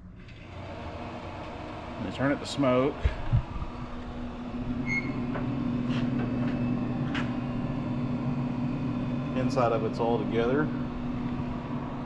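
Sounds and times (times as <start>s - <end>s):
fan and motor humming: 0.0s - 12.0s.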